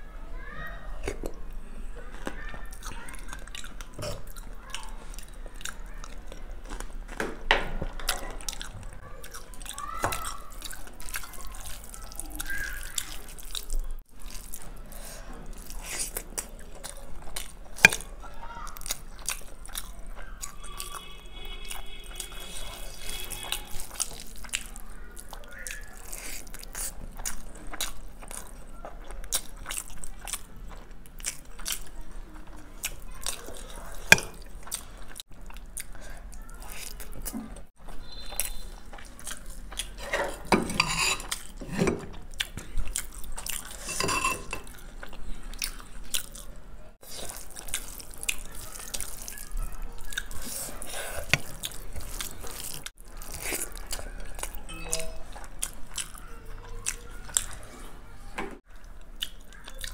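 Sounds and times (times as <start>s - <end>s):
chewing rice: 1.0s - 7.2s, 7.9s - 58.0s, 58.6s - 59.9s.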